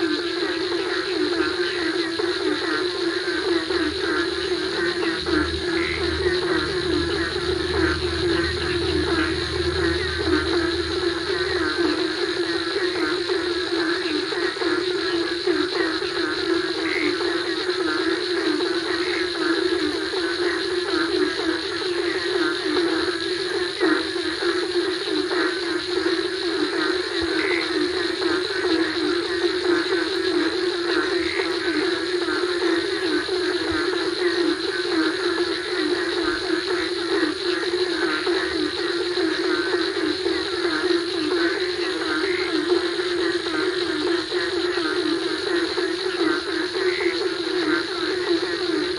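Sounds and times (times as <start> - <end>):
crickets trilling: 0.0 - 48.9
frogs croaking: 0.0 - 48.9.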